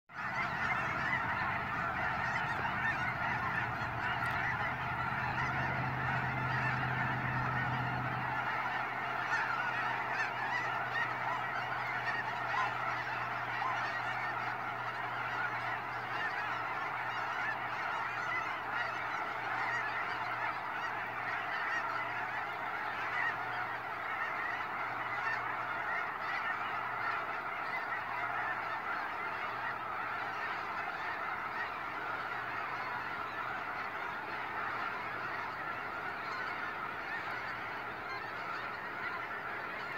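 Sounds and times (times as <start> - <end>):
flock of geese honking: 0.1 - 39.9.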